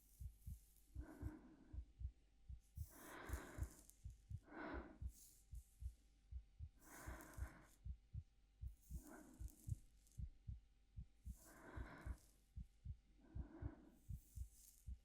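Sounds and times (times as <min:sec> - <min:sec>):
soft breaths: 0:00.1 - 0:15.0
heartbeat double thumps: 0:00.2 - 0:15.0.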